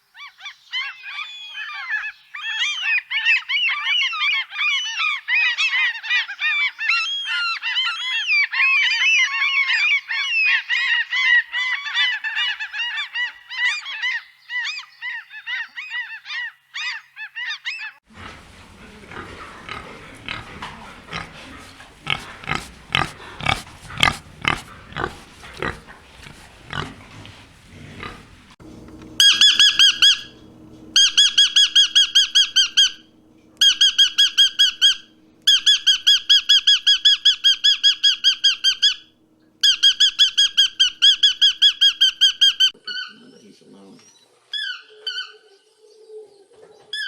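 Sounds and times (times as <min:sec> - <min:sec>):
rough noisy animal calls: 0:00.1 - 0:43.2.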